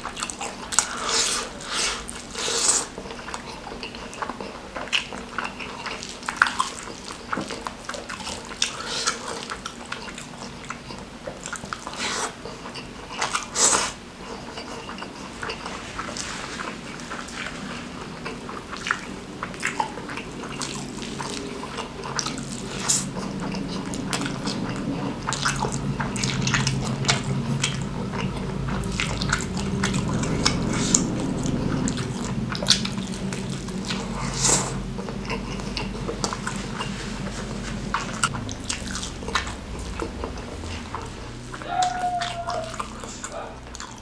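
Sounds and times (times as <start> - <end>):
wet chewing and lip-smacking: 0.0 - 44.0.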